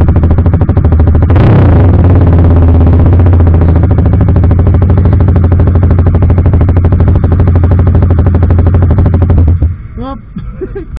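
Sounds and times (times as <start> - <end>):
motorcycle engine running loud: 0.0 - 10.0.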